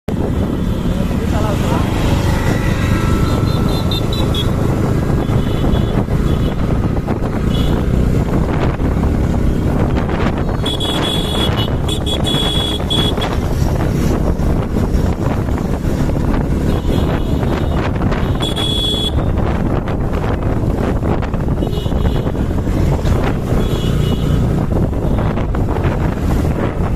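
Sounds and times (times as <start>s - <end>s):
motorcycle engine running: 0.1s - 26.9s
wind rush on microphone: 0.1s - 26.9s.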